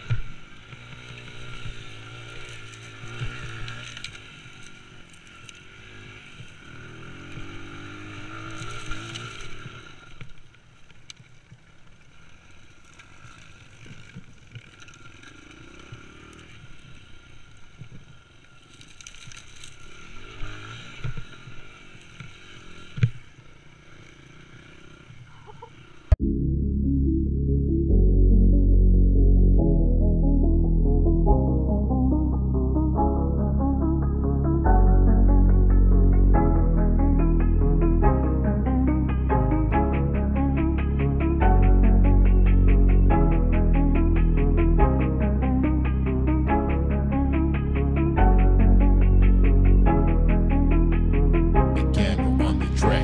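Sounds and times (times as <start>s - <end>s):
motorcycle engine revving: 0.0s - 10.6s, 12.2s - 26.2s, 27.7s - 53.0s.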